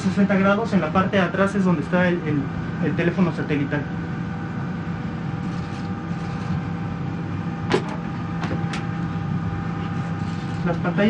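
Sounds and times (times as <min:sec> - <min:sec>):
air conditioning hum: 0:00.0 - 0:11.0.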